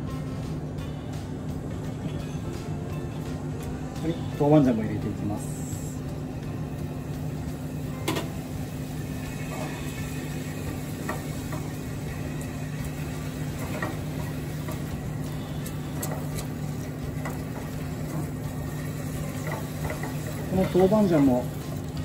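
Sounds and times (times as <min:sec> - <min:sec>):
steady low hum: 0:00.0 - 0:22.0
aromatics frying in oil: 0:04.0 - 0:22.0.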